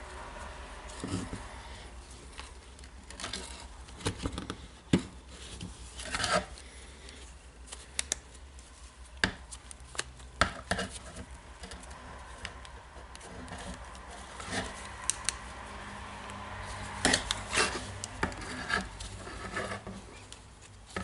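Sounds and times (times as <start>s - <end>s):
scraping rustle: 0.8s - 15.7s, 16.6s - 21.0s.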